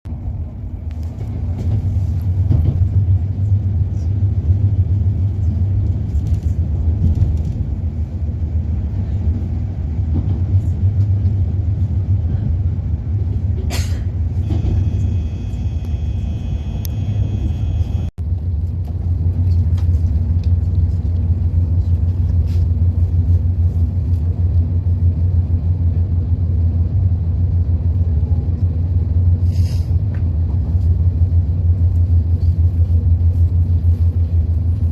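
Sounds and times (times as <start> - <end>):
train rumble inside cabin: 0.0 - 34.9.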